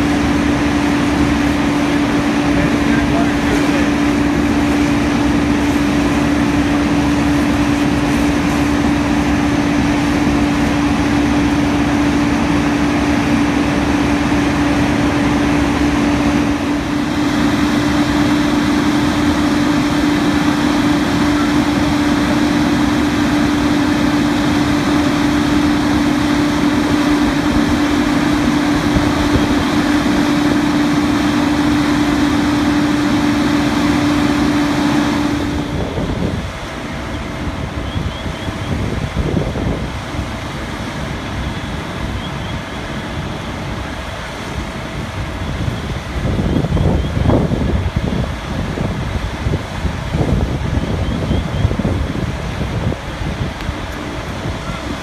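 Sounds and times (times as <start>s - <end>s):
fire engine droning: 0.0s - 55.0s.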